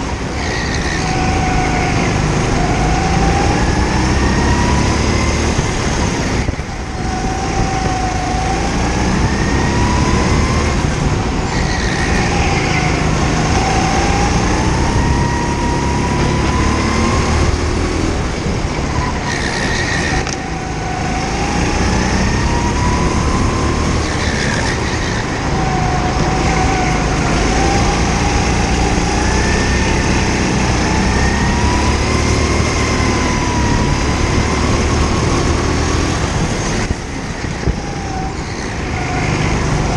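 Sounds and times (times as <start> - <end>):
go-kart engine accelerating: 0.0 - 39.9.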